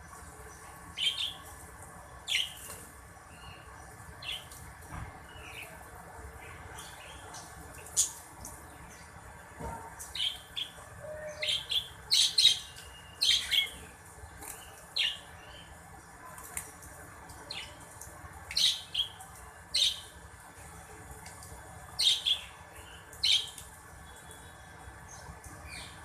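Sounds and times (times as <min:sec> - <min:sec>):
small birds chirping: 0:00.1 - 0:04.6, 0:05.2 - 0:09.3, 0:10.0 - 0:20.2, 0:21.2 - 0:26.0.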